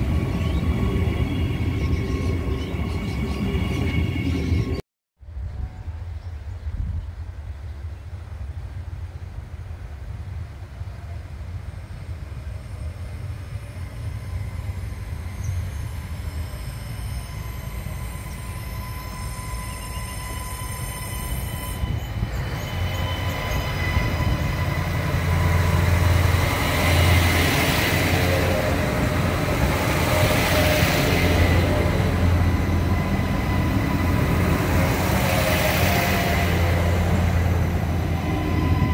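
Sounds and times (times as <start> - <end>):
diesel railcar passing: 0.0 - 6.2, 7.3 - 38.9.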